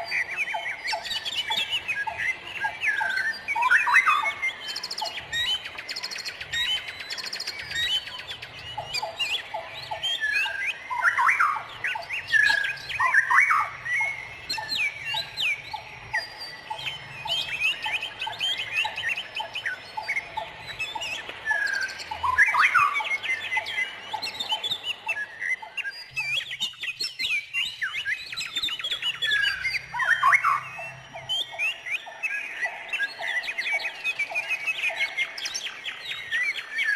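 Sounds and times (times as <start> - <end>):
chorus of birds chirping: 0.0 - 36.9.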